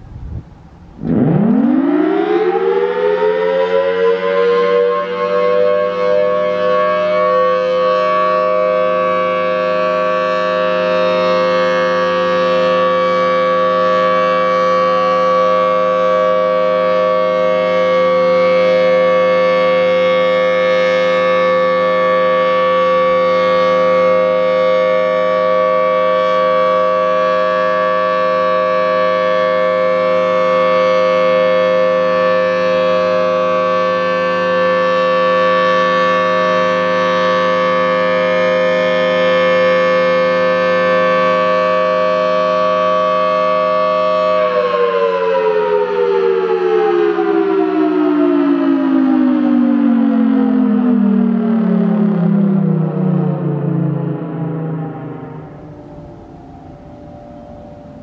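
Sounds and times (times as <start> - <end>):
warning siren steady chord: 0.0 - 58.0.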